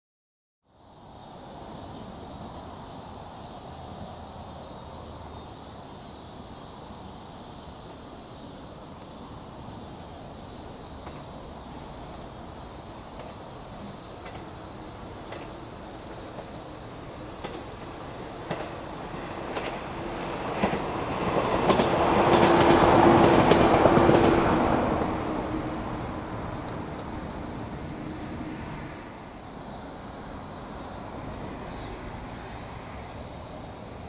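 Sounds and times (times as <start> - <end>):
insects chirring: 0.7 - 34.0
distant train rumble: 1.6 - 34.0.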